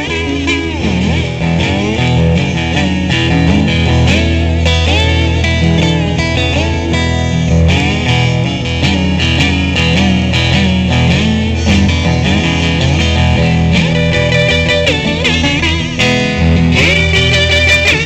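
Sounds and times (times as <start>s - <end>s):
acoustic guitar: 0.0s - 18.0s
electric guitar: 0.0s - 18.0s.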